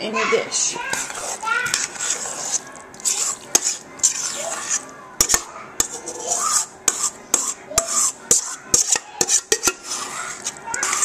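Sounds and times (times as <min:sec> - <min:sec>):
spoon scraping glass dish: 0:00.9 - 0:11.0.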